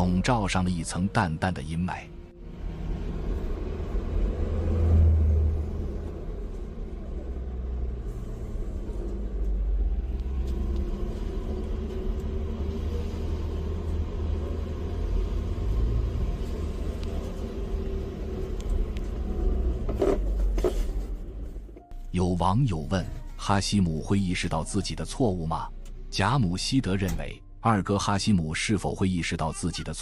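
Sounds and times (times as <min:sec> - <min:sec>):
car engine and road rumble: 0:00.0 - 0:29.3.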